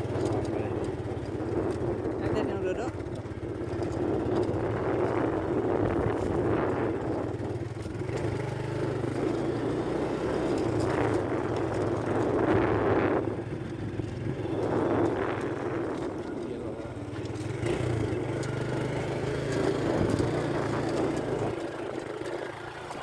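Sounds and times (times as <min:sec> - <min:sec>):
low hum and rushing noise: 0:00.0 - 0:23.0
vehicle engine running: 0:00.0 - 0:23.0.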